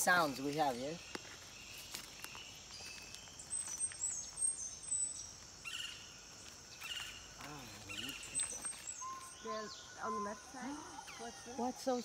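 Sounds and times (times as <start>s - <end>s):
birds chirping and whistling: 0.0s - 12.0s
high-pitched insect hum: 0.0s - 12.0s.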